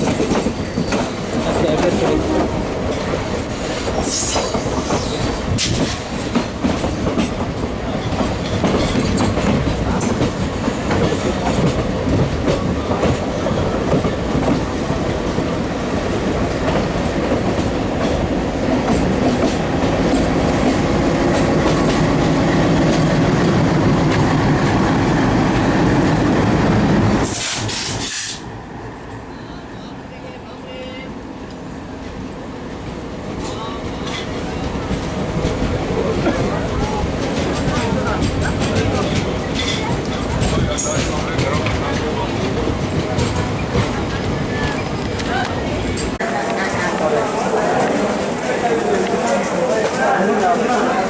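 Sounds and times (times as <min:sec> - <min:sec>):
train wheels rumbling on rails: 0:00.0 - 0:29.9, 0:31.5 - 0:51.0.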